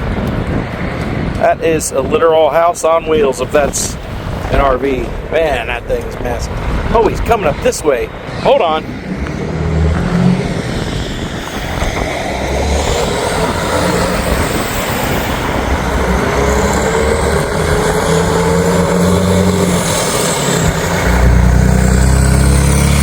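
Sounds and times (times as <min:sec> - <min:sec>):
wind buffeting microphone: 0:00.0 - 0:22.8
motorhome engine and tyre noise: 0:00.0 - 0:23.0.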